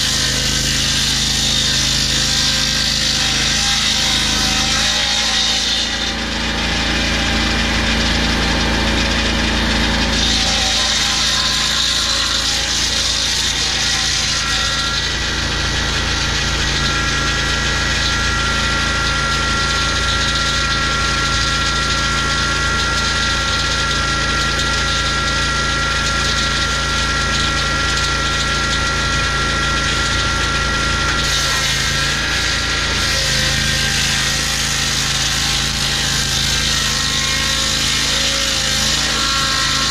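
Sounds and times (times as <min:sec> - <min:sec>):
saw blade whine: 0:00.0 - 0:39.9
sawmill engine running: 0:00.0 - 0:39.9.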